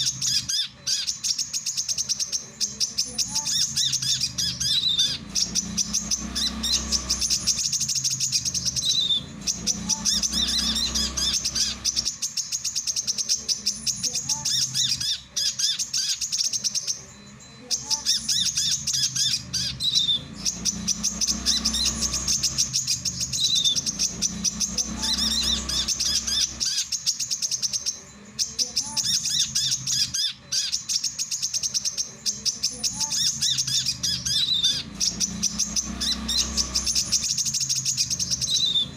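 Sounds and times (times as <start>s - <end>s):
bird singing high twittering: 0.0s - 38.9s.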